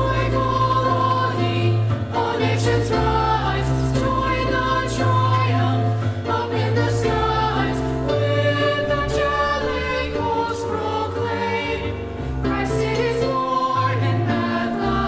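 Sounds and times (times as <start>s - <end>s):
choir singing a carol: 0.0s - 15.0s.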